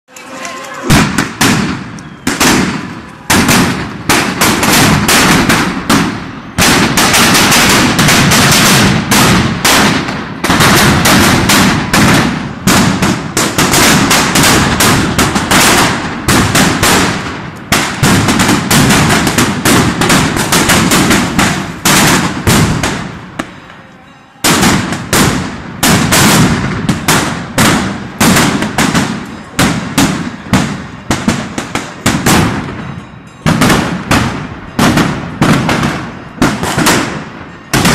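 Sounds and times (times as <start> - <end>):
firecrackers banging: 0.1 - 37.9.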